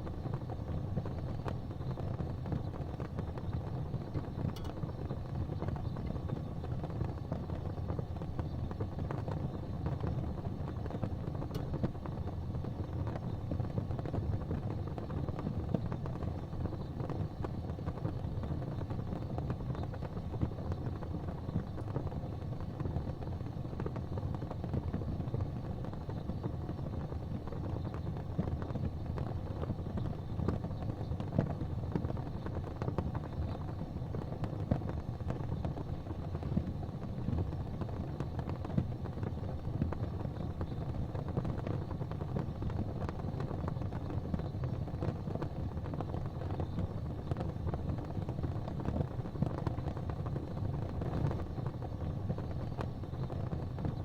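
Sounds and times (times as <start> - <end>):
fire crackles and pops: 0.0 - 54.0
fire rumbling in fireplace: 0.0 - 54.0.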